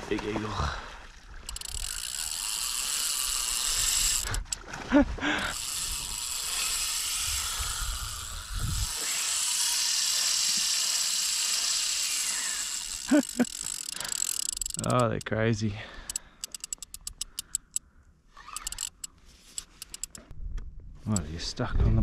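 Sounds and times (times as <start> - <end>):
fishing reel ratcheting: 1.4 - 4.7, 5.4 - 17.8, 18.4 - 20.3.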